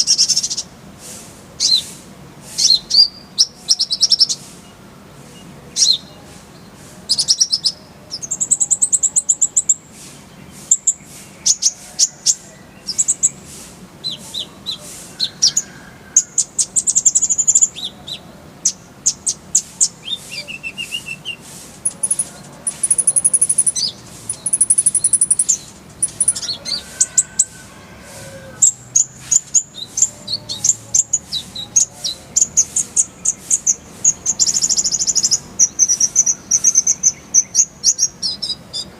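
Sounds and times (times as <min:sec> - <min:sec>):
bird singing chirps and trills: 0:02.6 - 0:04.8, 0:05.4 - 0:27.6, 0:28.5 - 0:38.9.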